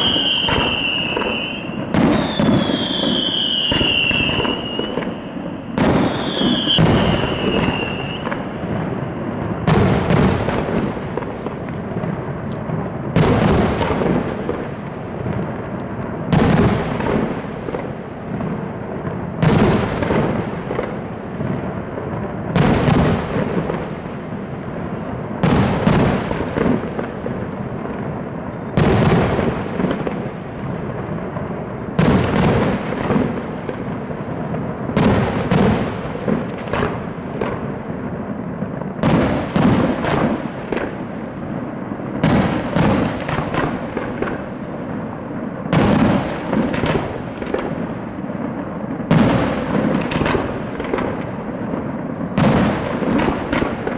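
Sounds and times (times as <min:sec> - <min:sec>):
firework bursts: 0:00.0 - 0:53.9
fireworks crackle and rumble: 0:00.0 - 0:53.9.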